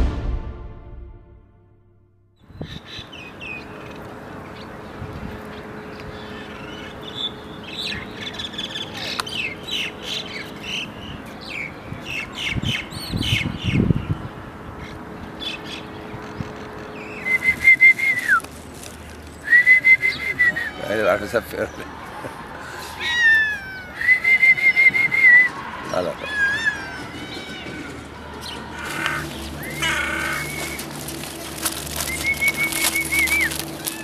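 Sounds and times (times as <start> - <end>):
birds chirping: 2.4 - 22.2, 25.8 - 34.0.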